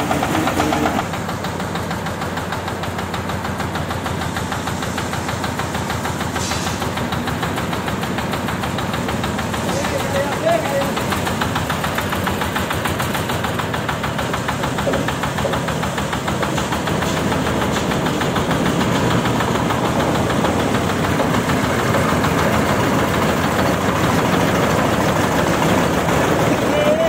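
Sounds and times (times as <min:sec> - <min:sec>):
diesel engine knocking: 0:00.0 - 0:27.0.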